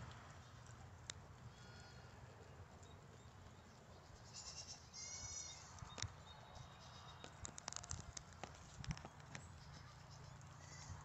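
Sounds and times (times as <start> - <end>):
small ticks: 0.0 - 4.8, 5.4 - 11.0.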